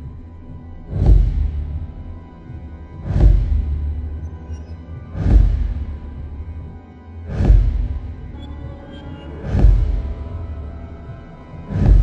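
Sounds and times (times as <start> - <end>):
deep pulsing hits: 0.0 - 12.0
ominous film score drone: 0.0 - 12.0.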